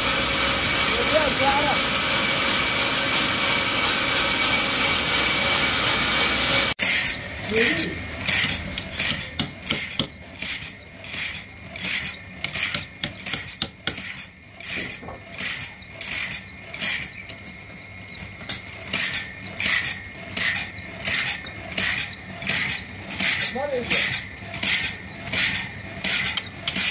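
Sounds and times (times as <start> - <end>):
sawmill blade rasping and clattering: 0.0 - 26.9.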